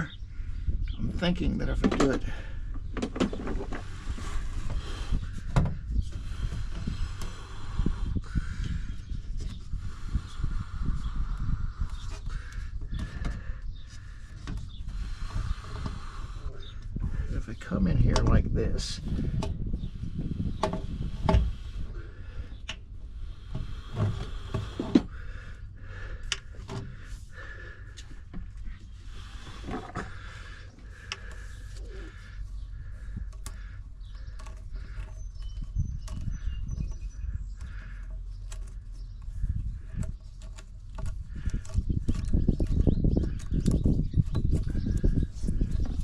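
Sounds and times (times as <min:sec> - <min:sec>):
birds chirping faintly: 0:00.0 - 0:46.0
steady low rumble: 0:00.0 - 0:46.0.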